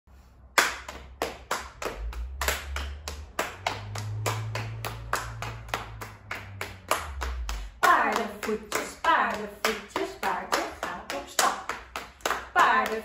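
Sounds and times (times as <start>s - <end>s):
rhythmic hand clapping: 0.5s - 13.0s.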